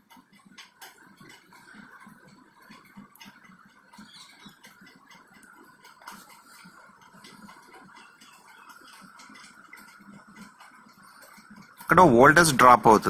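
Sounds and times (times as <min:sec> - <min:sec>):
wire scratching and tapping: 0:00.0 - 0:12.8.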